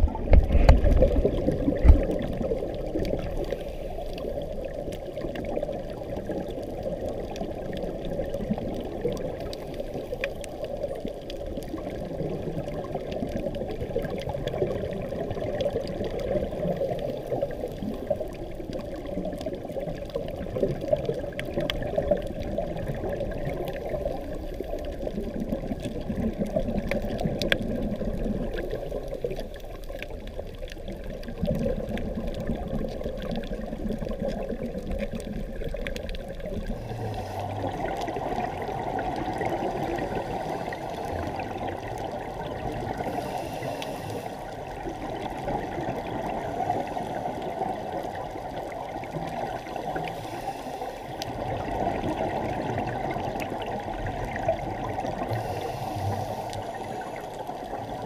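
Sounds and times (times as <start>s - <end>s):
muffled underwater rush: 0.0s - 58.0s
faint ticks: 1.7s - 58.0s.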